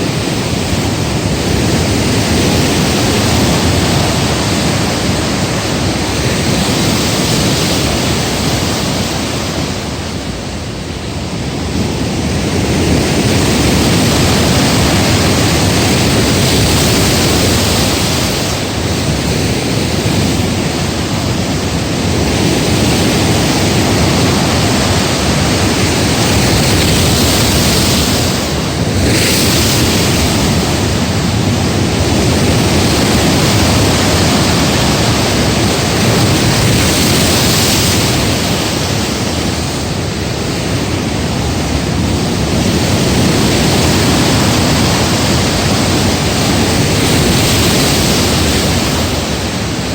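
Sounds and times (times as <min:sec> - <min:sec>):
heavy surf breaking: 0:00.0 - 0:49.9
wind buffeting microphone: 0:00.0 - 0:49.9.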